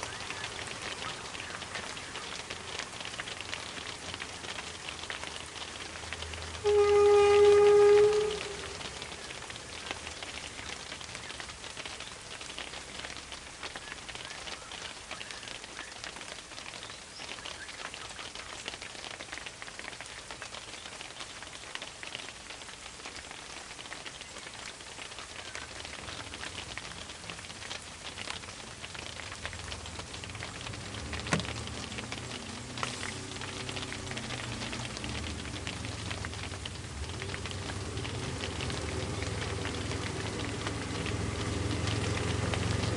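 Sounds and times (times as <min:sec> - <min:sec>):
dense crackling patter: 0:00.0 - 0:42.9.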